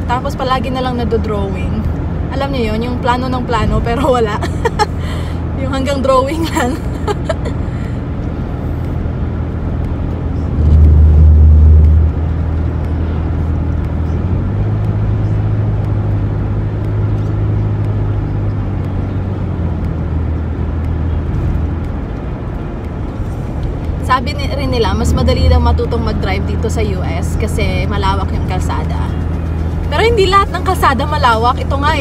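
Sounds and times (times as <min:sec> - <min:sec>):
road and engine noise in car: 0:00.0 - 0:32.0.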